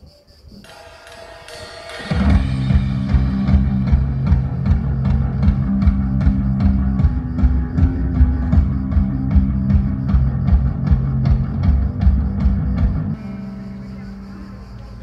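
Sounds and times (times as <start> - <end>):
rock band through pa system: 0.6 - 15.0.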